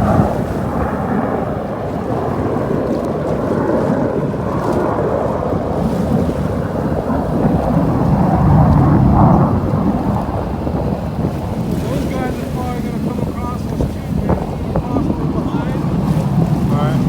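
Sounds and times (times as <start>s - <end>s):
rushing water: 0.0s - 17.0s
wind buffeting microphone: 0.0s - 17.0s.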